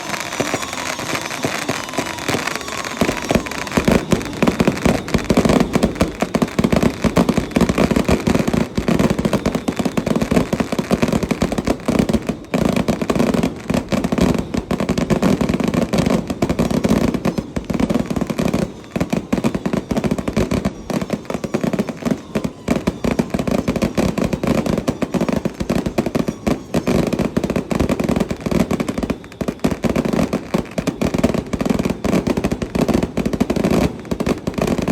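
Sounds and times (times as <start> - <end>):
firecrackers popping rapidly: 0.0 - 34.9.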